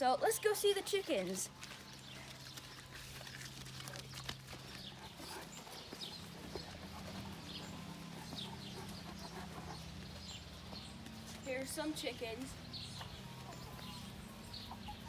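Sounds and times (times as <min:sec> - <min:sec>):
footsteps walking: 0:01.0 - 0:14.5.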